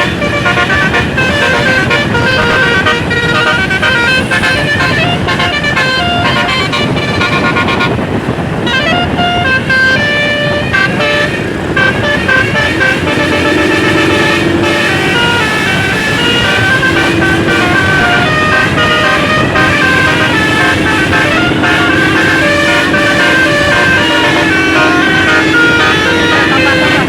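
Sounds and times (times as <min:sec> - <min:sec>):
musical air horn playing a tune: 0:00.0 - 0:27.0
road and engine noise: 0:00.0 - 0:27.0.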